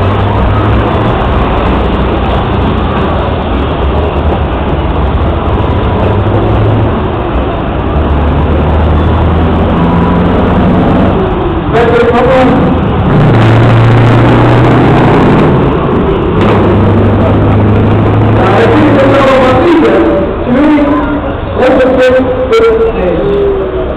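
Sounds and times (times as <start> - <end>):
truck diesel engines roaring: 0.0 - 23.9.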